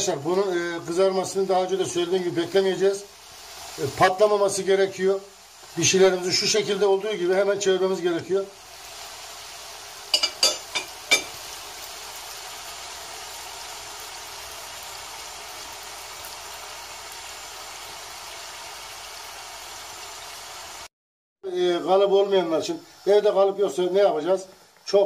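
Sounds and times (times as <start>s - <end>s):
dough sizzling in oil: 0.0s - 20.9s.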